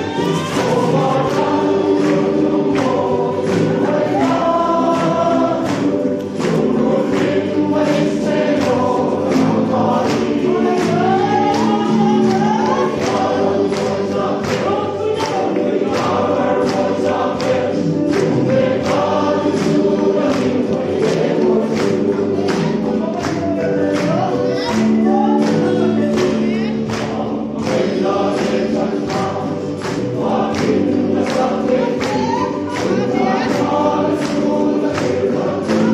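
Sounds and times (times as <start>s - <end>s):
men's choir singing a hymn: 0.0s - 35.9s.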